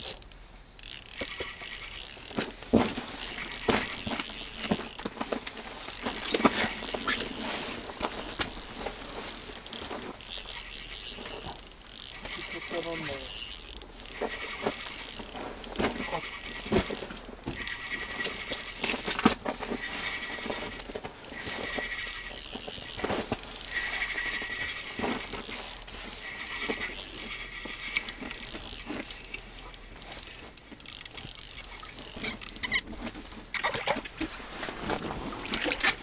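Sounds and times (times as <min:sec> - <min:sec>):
fishing reel whining: 0:00.0 - 0:32.9.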